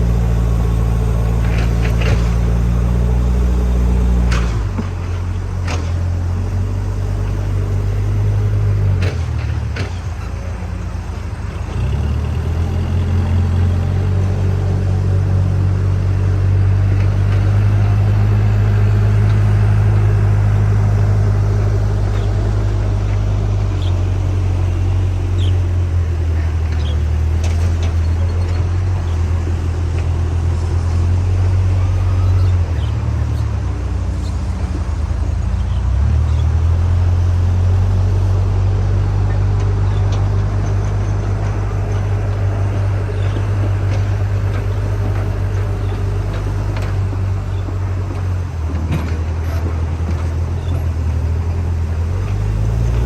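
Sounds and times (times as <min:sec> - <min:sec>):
backhoe diesel engine running: 0:00.0 - 0:53.0.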